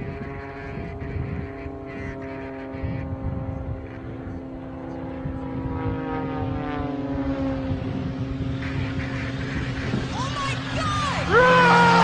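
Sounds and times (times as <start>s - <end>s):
model plane engine droning: 0.0s - 12.0s.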